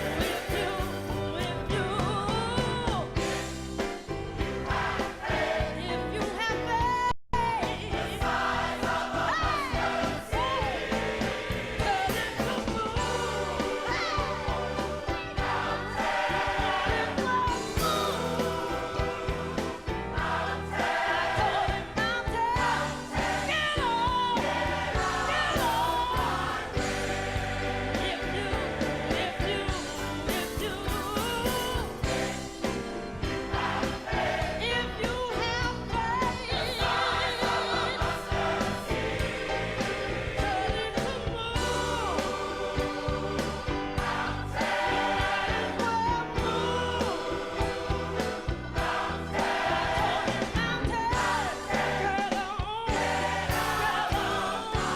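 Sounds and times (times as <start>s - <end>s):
gospel choir singing: 0.0s - 54.9s
live band with bass and drums: 0.0s - 54.9s.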